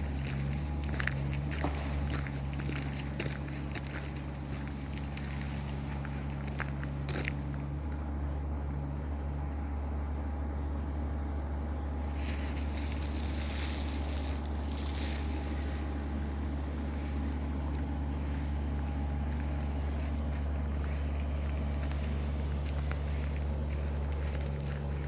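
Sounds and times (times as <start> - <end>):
engine droning steadily: 0.0 - 25.0.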